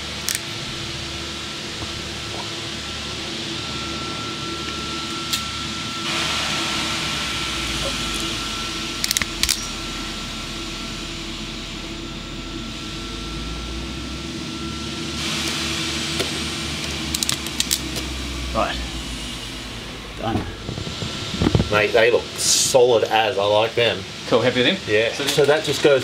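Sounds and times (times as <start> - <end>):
background hum and hiss: 0.0 - 26.0.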